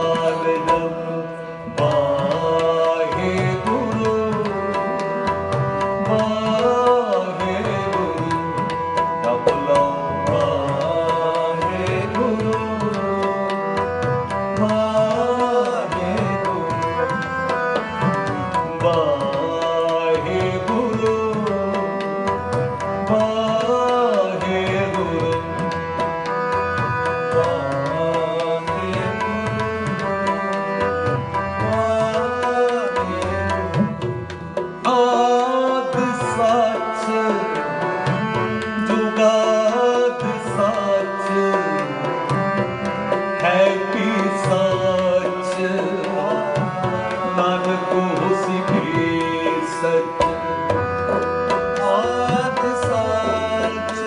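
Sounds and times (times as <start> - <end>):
harmonium chords: 0.0 - 54.0
man singing: 0.0 - 54.0
tabla rhythm: 0.0 - 54.0.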